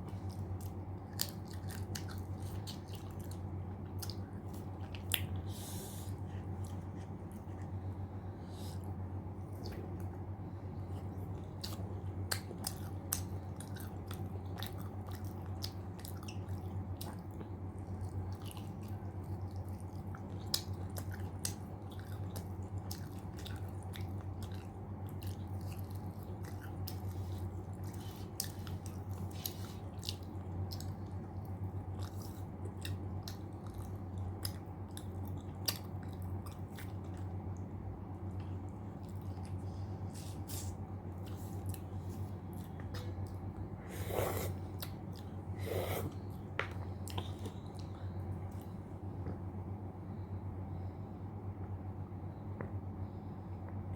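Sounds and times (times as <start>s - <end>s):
chewing and smacking: 0.0s - 49.5s
steady low hum: 0.0s - 53.9s.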